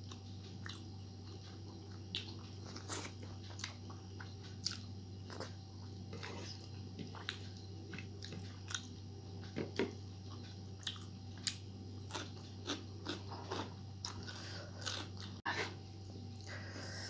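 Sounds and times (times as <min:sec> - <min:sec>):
person chewing food: 0:00.0 - 0:16.6.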